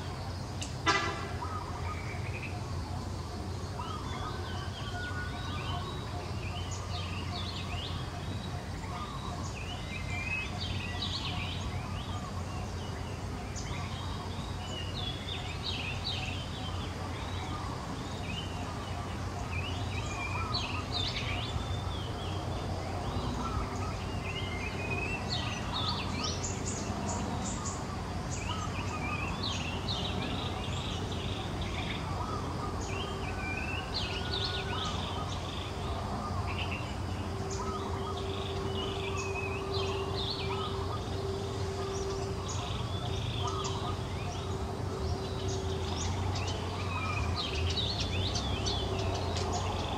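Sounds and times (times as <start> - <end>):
birds chirping: 0.0 - 49.9
faint steady tone: 0.0 - 49.9
low background hum: 0.0 - 49.9.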